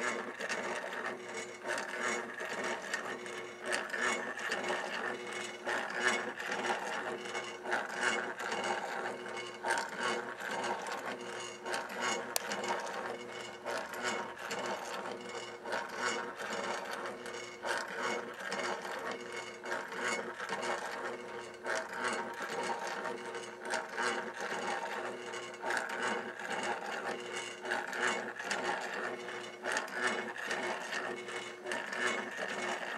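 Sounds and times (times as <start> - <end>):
motor hum: 0.0 - 32.9.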